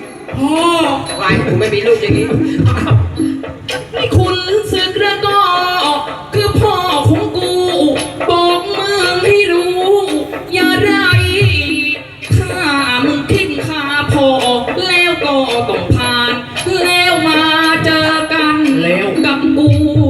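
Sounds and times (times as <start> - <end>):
percussion with drum beats: 0.0 - 20.0
person singing sliding melody: 0.0 - 20.0.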